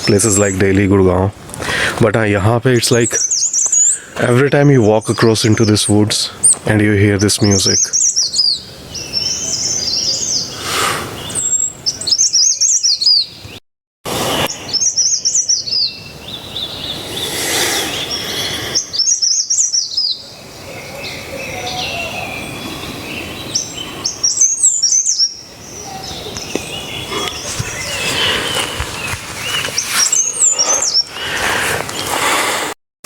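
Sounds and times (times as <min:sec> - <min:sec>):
songbirds chirping: 0:00.0 - 0:13.6, 0:14.3 - 0:32.5.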